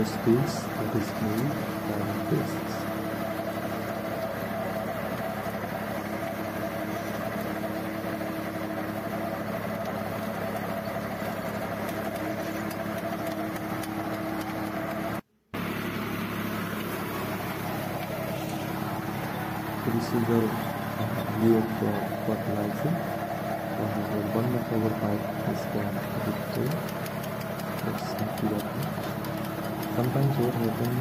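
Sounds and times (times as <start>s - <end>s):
tractor engine under load: 0.0s - 31.0s.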